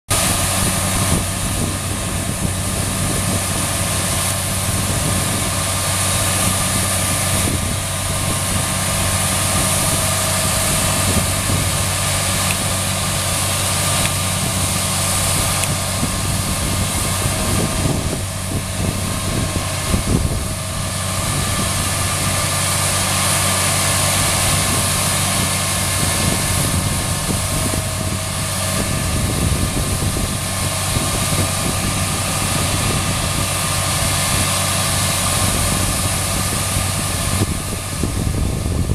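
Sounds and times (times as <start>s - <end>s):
auger unloading beans hiss: 0.1s - 38.9s
combine harvester engine running: 0.1s - 38.9s.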